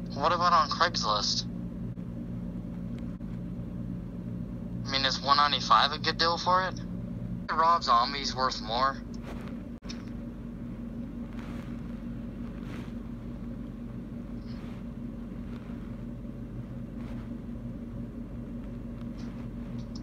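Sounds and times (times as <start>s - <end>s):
low hum with rumble: 0.0s - 20.0s.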